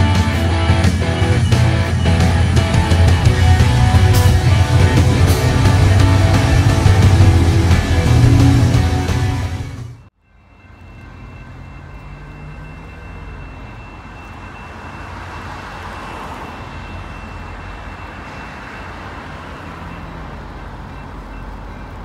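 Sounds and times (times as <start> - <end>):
distant rumble of vehicles: 0.0 - 22.0.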